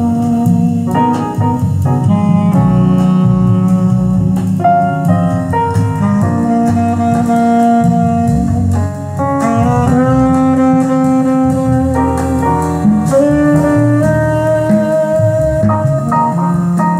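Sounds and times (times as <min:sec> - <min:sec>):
instrumental music over loudspeakers: 0:00.0 - 0:16.9.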